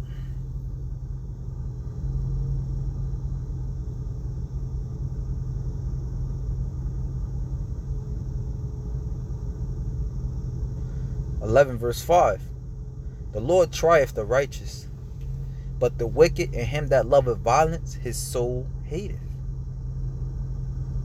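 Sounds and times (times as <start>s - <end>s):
low rumble with deep hum: 0.0s - 21.0s.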